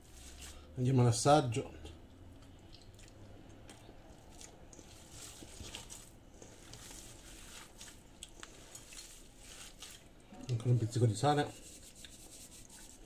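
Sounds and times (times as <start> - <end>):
hands squishing meat mixture: 0.0 - 0.9, 1.5 - 13.0.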